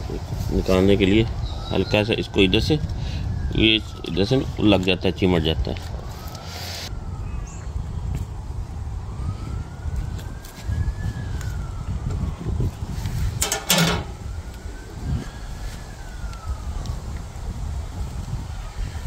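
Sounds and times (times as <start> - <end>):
distant siren wailing: 0.0 - 19.0.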